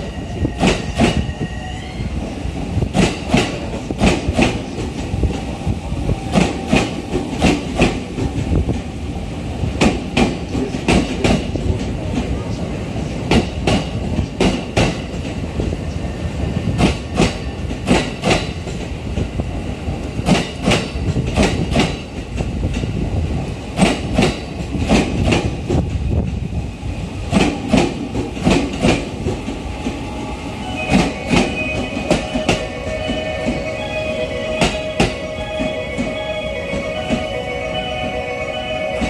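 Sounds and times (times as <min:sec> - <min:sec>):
electric train rumbling: 0:00.0 - 0:39.0.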